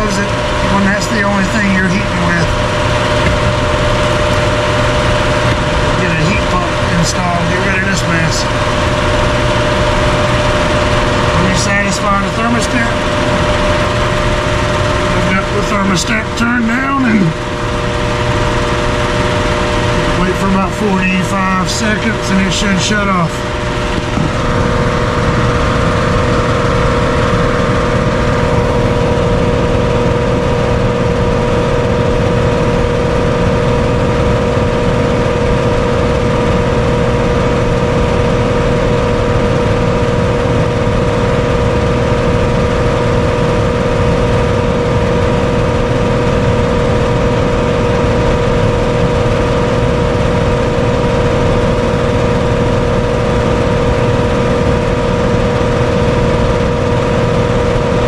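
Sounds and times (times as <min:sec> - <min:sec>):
furnace blower rushing air: 0:00.0 - 0:58.0
motor hum: 0:00.0 - 0:58.0.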